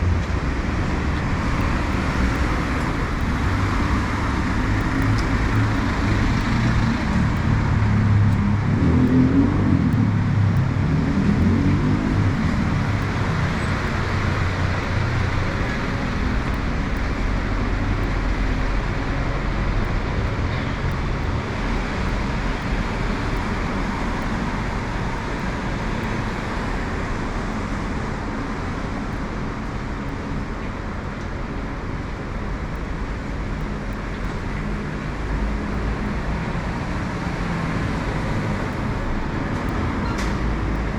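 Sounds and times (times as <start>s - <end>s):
passing traffic: 0.0s - 40.9s
vehicle engine rumble: 0.0s - 40.9s.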